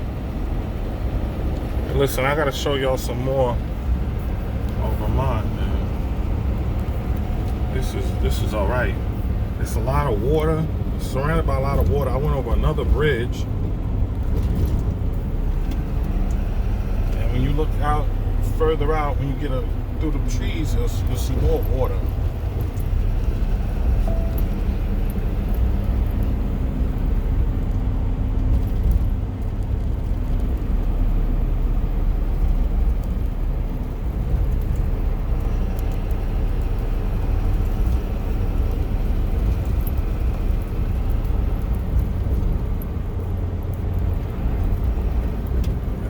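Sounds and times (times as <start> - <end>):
truck engine and road rumble: 0.0 - 46.0.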